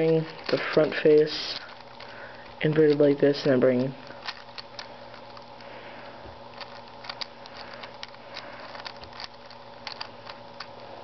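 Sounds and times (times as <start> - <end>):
puzzle cube plastic clicks: 0.0 - 5.7, 6.5 - 10.8.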